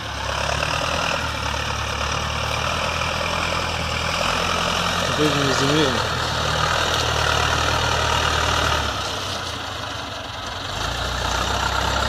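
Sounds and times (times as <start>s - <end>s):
tractor diesel engine pulling plough: 0.0s - 12.0s.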